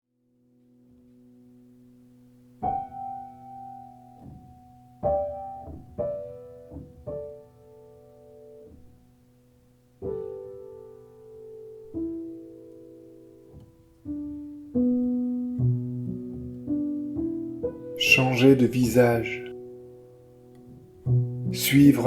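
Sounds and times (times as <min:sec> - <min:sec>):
slow solo piano chords: 0:00.2 - 0:22.0.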